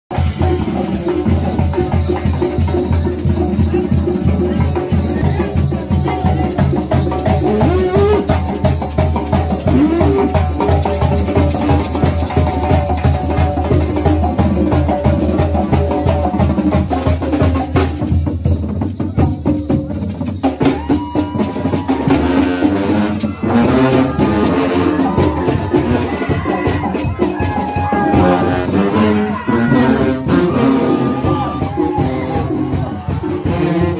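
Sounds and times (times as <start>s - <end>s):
brass band playing: 0.1s - 33.9s
drums and cymbals beat: 0.1s - 33.9s.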